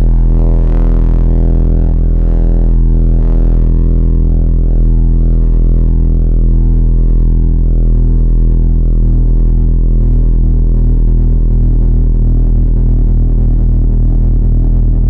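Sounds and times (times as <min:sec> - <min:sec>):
deep bass drone: 0:00.0 - 0:15.0.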